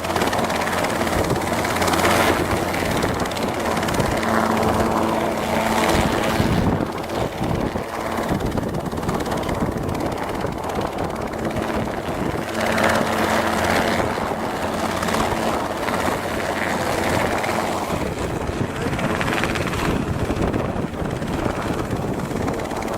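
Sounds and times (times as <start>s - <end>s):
helicopter engine and rotor drone: 0.0s - 22.9s.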